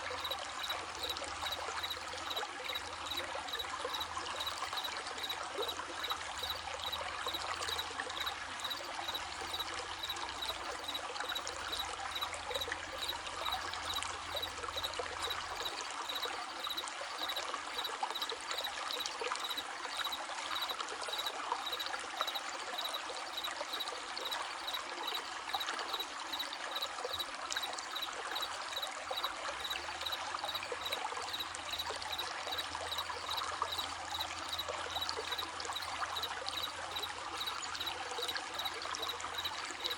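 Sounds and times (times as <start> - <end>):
crickets chirping: 0.0 - 39.9
stream babbling: 0.0 - 39.9.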